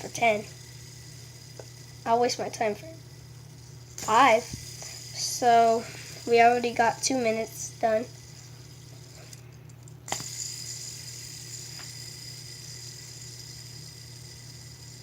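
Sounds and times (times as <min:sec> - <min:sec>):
fidget spinner click: 0:00.0 - 0:03.1, 0:03.9 - 0:15.0
fidget spinner whirring: 0:00.0 - 0:15.0
steady low hum: 0:00.0 - 0:15.0.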